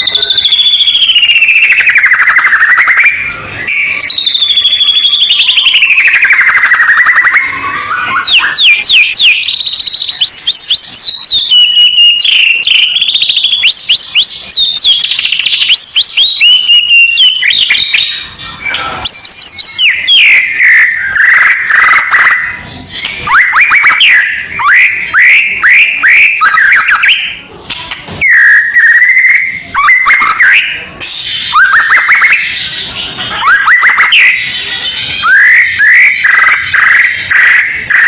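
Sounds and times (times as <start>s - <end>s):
bird song whistled notes: 0.0s - 27.4s, 28.2s - 38.0s.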